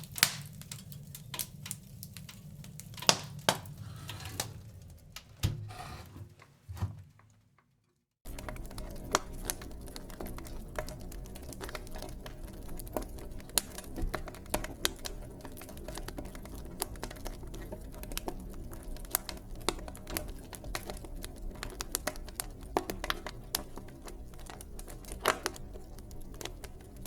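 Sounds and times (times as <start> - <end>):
wood fire crackling: 0.0 - 6.0, 8.2 - 27.0.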